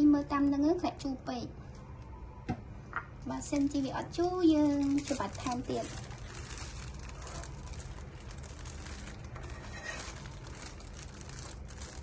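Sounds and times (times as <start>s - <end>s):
low hiss and hum: 0.0s - 12.0s.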